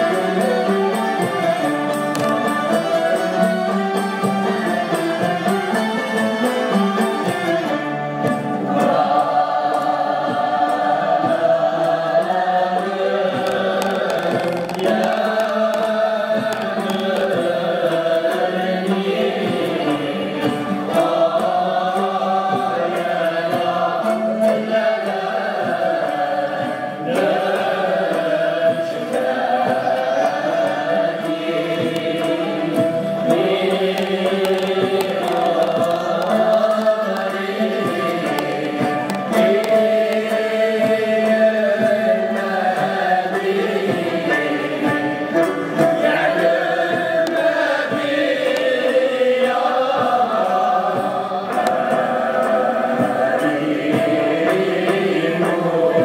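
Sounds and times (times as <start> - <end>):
string ensemble playing: 0.0 - 28.6, 30.6 - 56.0
choir singing: 0.0 - 56.0.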